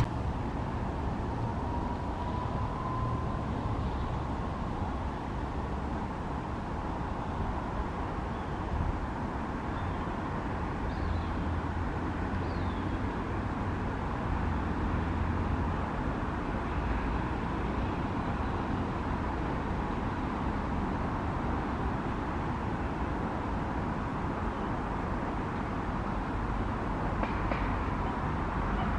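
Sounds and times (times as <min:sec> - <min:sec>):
low rumble of traffic: 0:00.0 - 0:28.9.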